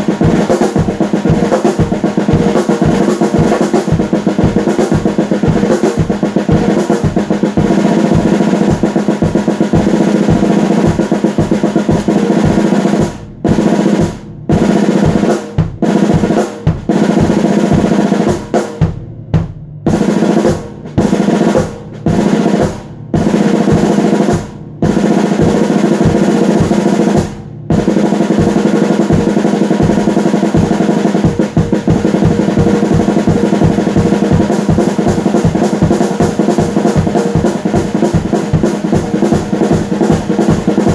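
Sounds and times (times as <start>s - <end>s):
fast loud drumming with rolls: 0.0s - 40.9s.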